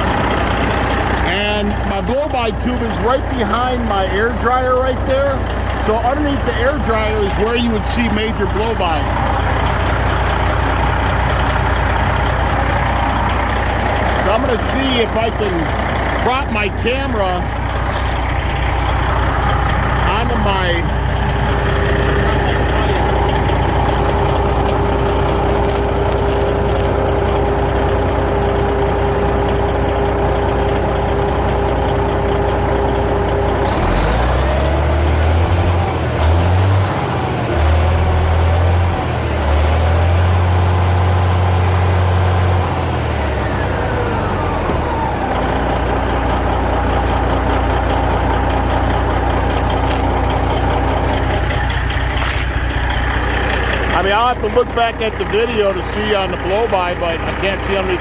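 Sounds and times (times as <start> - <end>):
diesel truck engine idling and revving: 0.0 - 58.0.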